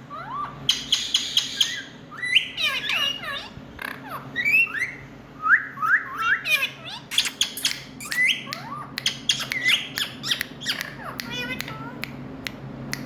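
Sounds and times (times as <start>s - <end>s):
parakeet squawking: 0.0s - 5.1s, 5.8s - 12.0s.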